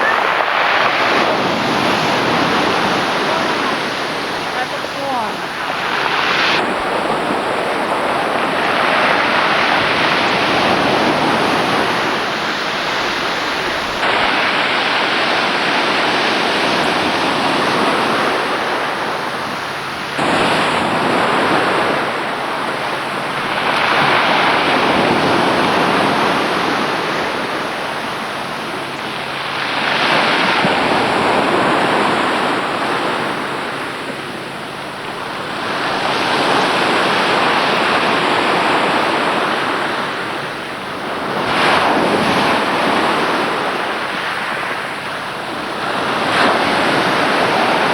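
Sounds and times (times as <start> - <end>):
sea waves washing in: 0.0 - 47.9.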